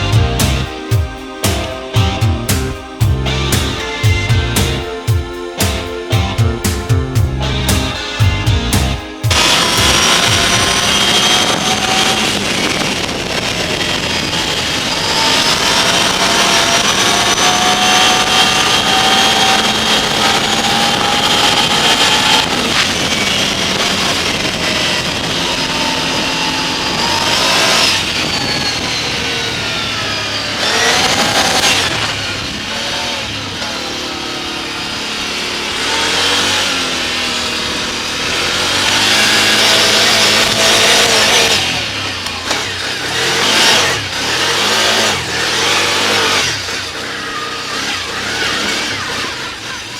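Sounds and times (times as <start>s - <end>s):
vehicle engine changing speed: 0.0s - 49.9s.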